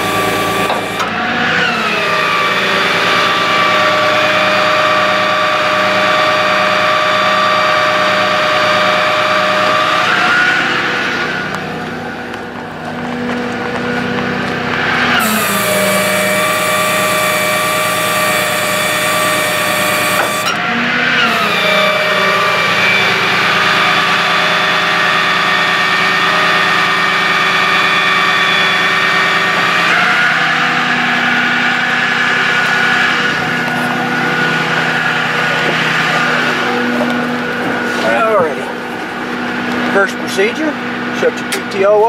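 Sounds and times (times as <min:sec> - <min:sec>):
hydraulic whine: 0:00.0 - 0:42.0
truck engine running: 0:00.0 - 0:42.0.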